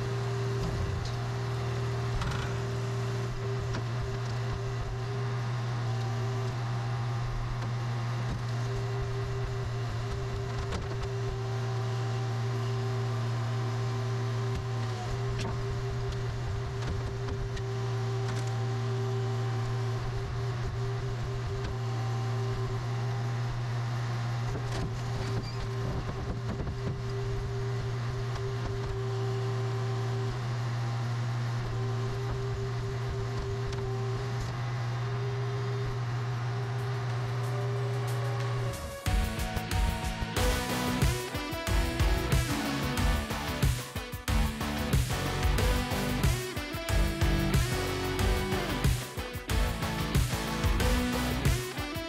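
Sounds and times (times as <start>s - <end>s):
car crusher engine drone: 0.0s - 52.0s.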